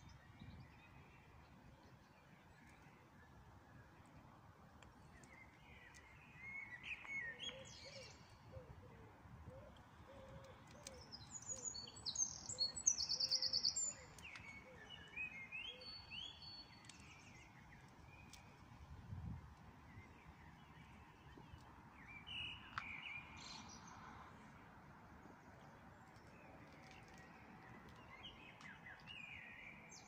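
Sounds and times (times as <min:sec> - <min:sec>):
faint outdoor background noise: 0:00.0 - 0:30.0
songbirds chirping and warbling: 0:00.0 - 0:30.0.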